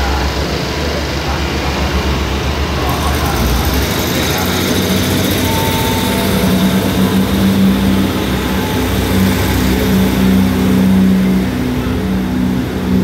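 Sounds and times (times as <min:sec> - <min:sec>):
diesel train engines humming: 0:00.0 - 0:13.0.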